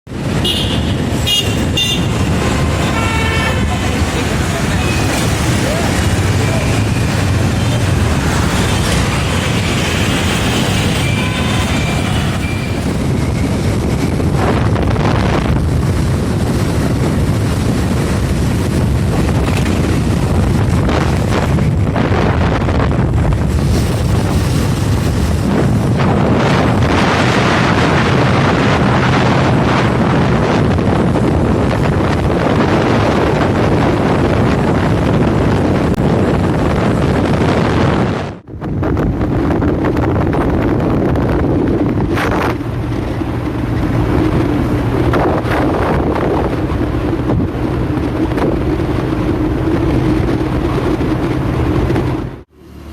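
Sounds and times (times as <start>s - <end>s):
road noise: 0.0s - 52.9s
wind buffeting microphone: 0.1s - 52.5s
motorcycle running: 0.1s - 52.9s.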